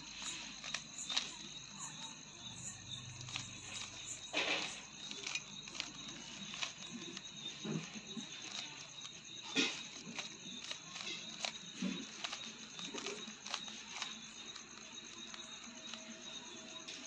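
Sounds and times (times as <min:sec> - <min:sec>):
plastic puzzle cube clicking: 0:00.0 - 0:01.9, 0:03.0 - 0:09.1, 0:09.7 - 0:16.3
cube clacking turns: 0:00.0 - 0:17.0.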